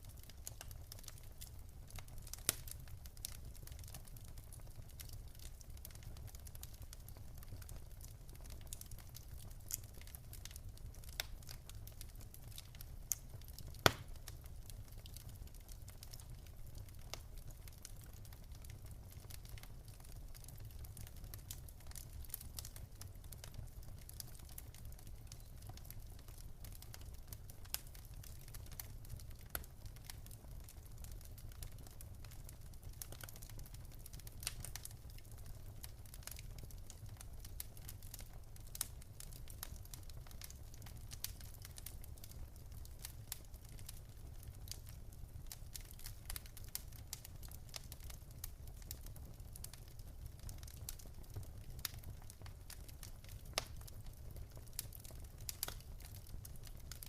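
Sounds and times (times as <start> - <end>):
fire crackling and popping: 0.0 - 57.0
low rumble of flames: 0.1 - 57.0.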